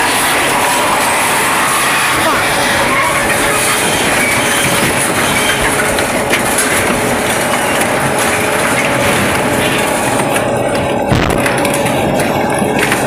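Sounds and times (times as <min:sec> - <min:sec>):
metal shredder grinding scrap steel: 0:00.0 - 0:13.0.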